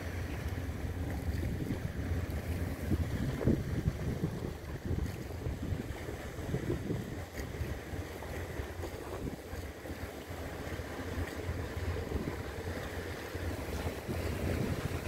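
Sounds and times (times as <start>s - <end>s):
wind buffeting microphone: 0.2s - 15.0s.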